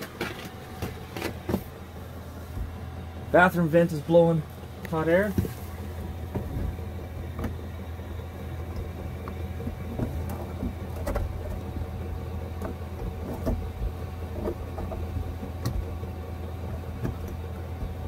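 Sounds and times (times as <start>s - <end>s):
air heater humming: 0.0s - 18.0s.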